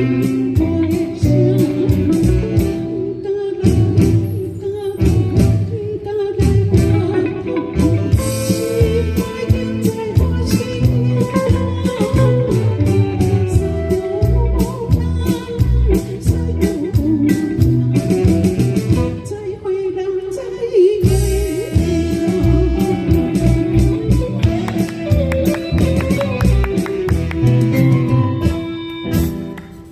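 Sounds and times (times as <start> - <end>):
person singing: 0.0 - 18.4, 19.0 - 28.5
pop band playing: 0.0 - 29.9.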